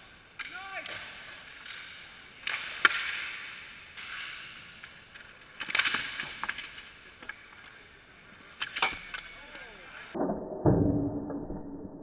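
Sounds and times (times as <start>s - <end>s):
hockey sticks and puck clacking: 0.3s - 10.2s.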